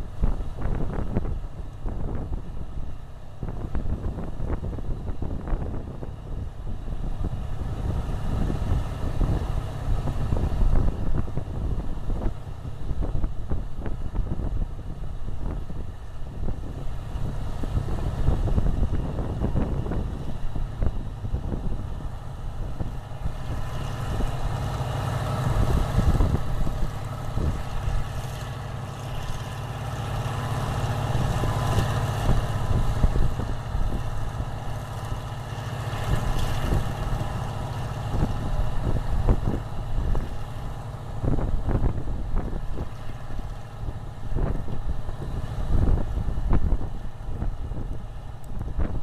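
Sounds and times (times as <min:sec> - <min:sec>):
tractor engine running: 0:00.0 - 0:49.0
wind buffeting microphone: 0:00.0 - 0:49.0.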